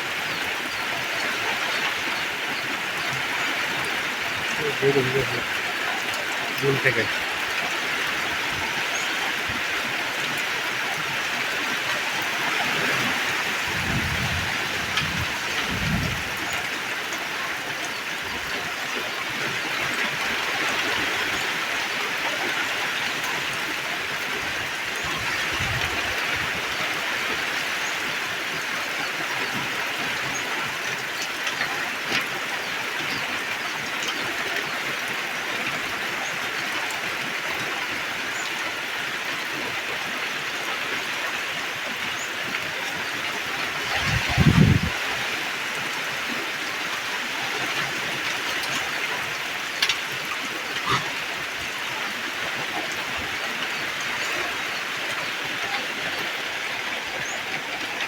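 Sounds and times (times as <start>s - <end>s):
torrential rain hiss: 0.0s - 58.0s.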